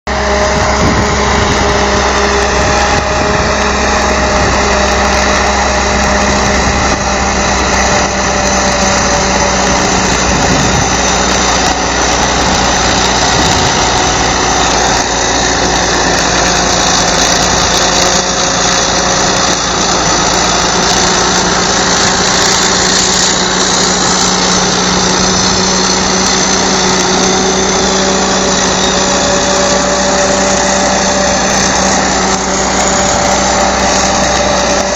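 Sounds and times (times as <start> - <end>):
bulldozer diesel engine running: 0.1 - 34.9.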